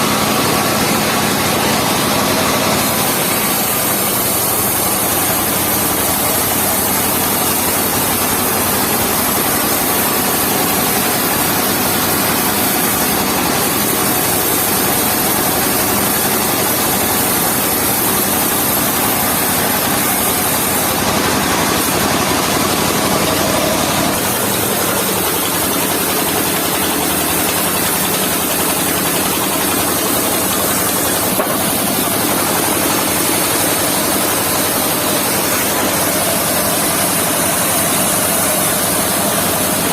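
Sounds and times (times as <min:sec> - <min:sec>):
circular sawmill engine running: 0:00.0 - 0:39.9.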